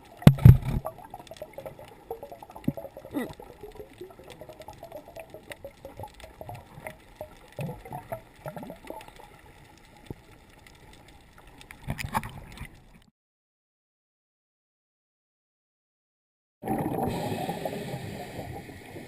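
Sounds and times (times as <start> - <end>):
water splashing and gurgling: 0.0 - 13.1, 16.6 - 19.0.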